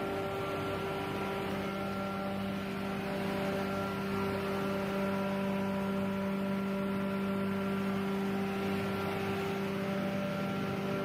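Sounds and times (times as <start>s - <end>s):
hammer mill grinder running: 0.0s - 11.0s.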